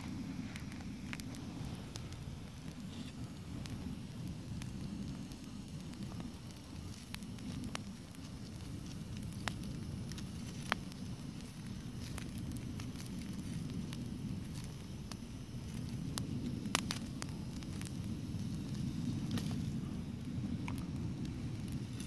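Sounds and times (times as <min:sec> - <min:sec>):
campfire crackling: 0:00.0 - 0:22.0
sharp pops of fire: 0:00.0 - 0:22.0.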